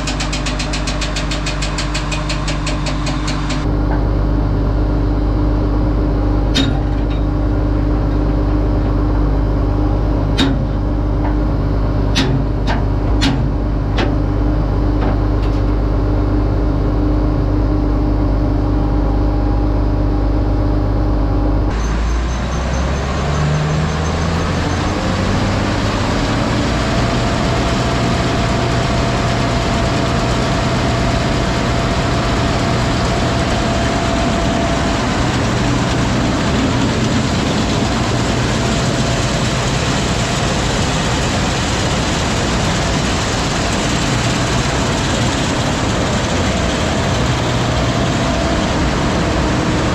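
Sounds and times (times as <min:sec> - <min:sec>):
diesel farm machinery running: 0:00.0 - 0:49.9
rising machinery whine: 0:00.0 - 0:49.9.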